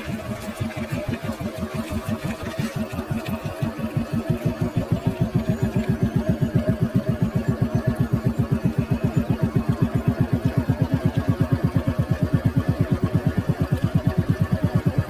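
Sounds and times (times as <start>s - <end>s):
vehicle engine throbbing: 0.0s - 15.0s.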